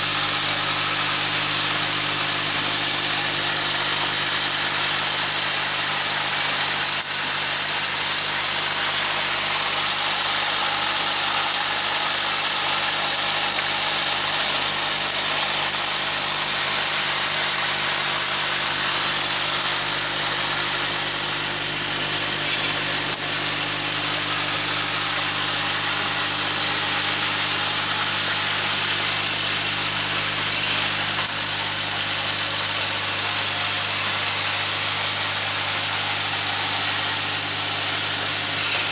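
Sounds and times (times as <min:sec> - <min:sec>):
grinder machine humming: 0:00.0 - 0:38.9.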